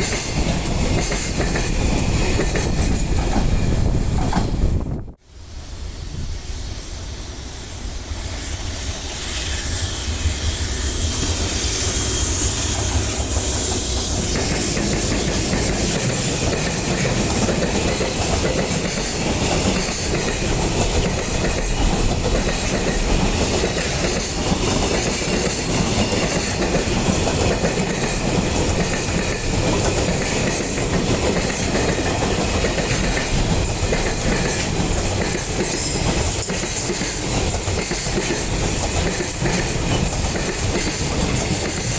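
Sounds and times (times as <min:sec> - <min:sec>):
freight train wheels clattering: 0:00.0 - 0:05.0, 0:10.4 - 0:41.9.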